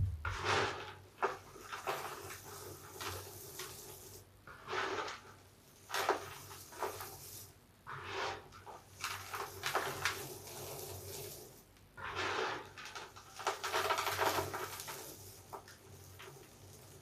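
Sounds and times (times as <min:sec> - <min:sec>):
soapy sponge squishing: 0:00.0 - 0:17.0.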